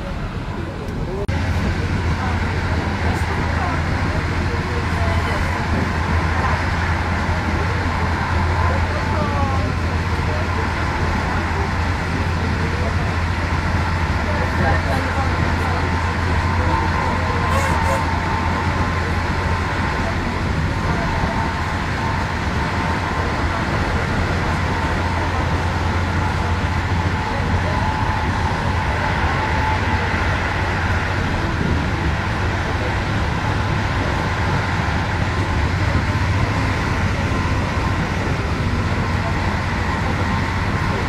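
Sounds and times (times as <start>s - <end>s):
train running from inside carriage: 0.0s - 41.0s.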